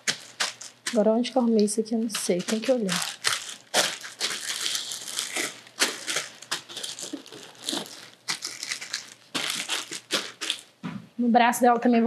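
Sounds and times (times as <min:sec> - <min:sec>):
thin plastic crinkling: 0:00.0 - 0:10.8.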